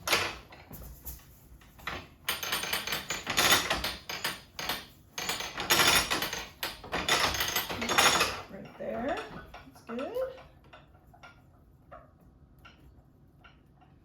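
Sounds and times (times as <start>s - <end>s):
loom ratchet clicking and clattering: 0.0s - 0.8s, 1.6s - 14.0s
loom knock: 1.8s - 13.9s.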